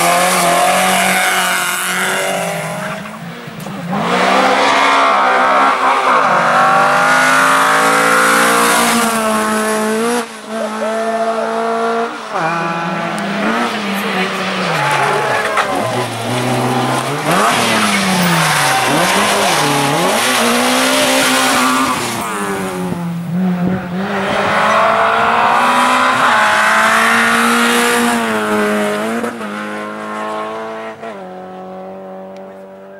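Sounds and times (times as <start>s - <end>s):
rally car engine revving: 0.0s - 32.9s.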